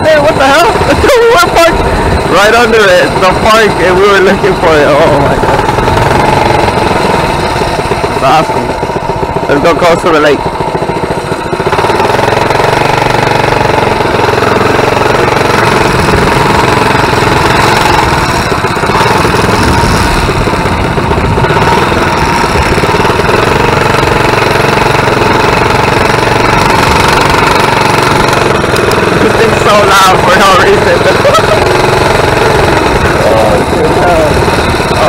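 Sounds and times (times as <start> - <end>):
mini bike engine running: 0.0 - 35.0.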